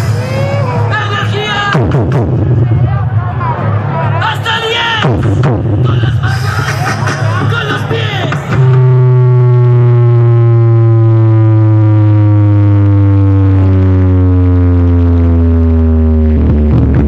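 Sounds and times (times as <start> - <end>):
electronic dance music: 0.0 - 17.0
loud distorted bass tone: 0.0 - 17.0.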